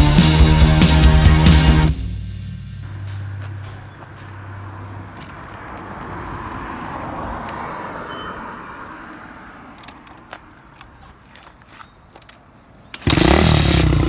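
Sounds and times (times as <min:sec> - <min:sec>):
passing vehicle road noise: 0:00.0 - 0:13.8.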